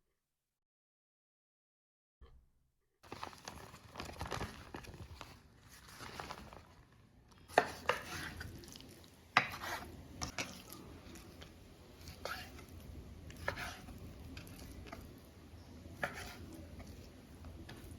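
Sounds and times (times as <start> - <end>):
food stirred in a bowl: 3.1 - 17.9.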